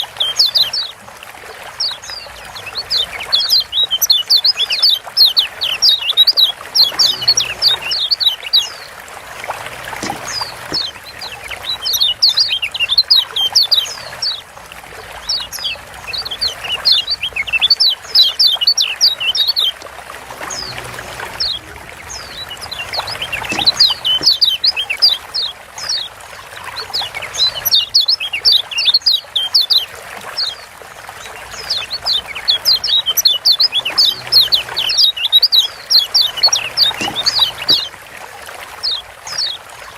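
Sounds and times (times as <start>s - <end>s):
birds chirping high notes: 1.8s - 26.1s, 26.7s - 30.6s, 31.2s - 38.0s.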